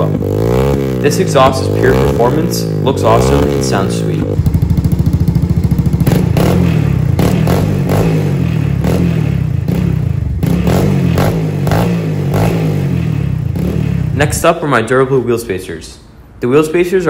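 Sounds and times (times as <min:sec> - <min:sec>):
quad engine throttle blips: 0:00.0 - 0:14.4.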